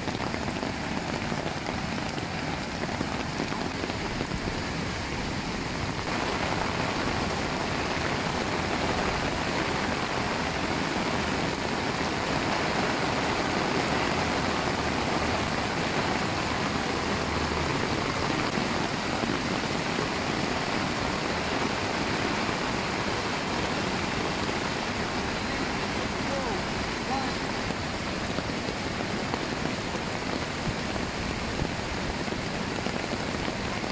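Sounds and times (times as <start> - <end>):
rain falling: 0.0 - 33.9
river rapids rushing: 0.0 - 33.9.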